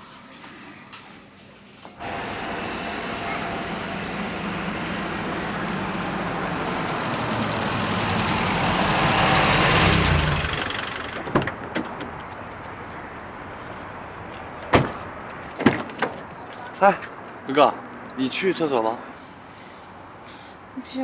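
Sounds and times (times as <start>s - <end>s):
vehicle engine and road noise: 1.2s - 21.0s.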